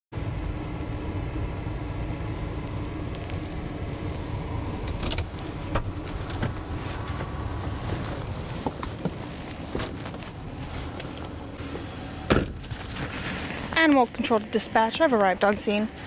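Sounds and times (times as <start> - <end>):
truck engine running: 0.2 - 16.0.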